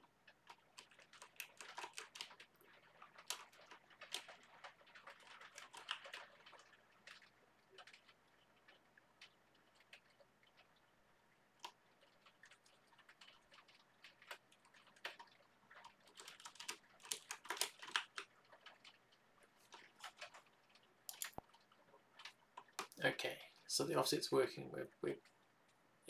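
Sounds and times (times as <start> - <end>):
computer keyboard typing: 0.0 - 10.9, 11.6 - 23.1.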